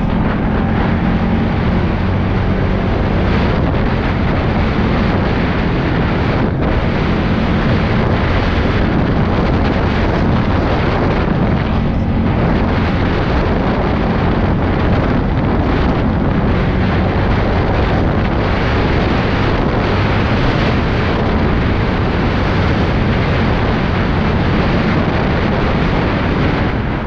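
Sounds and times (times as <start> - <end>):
atv engine running: 0.0 - 27.0
wind buffeting microphone: 0.0 - 27.0.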